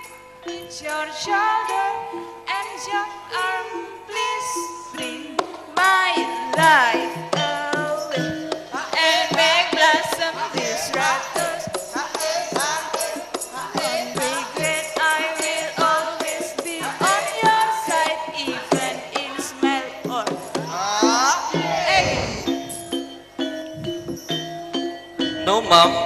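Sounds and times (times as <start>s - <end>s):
woman singing into microphone: 0.0s - 22.7s
traditional music with percussion: 0.0s - 26.0s.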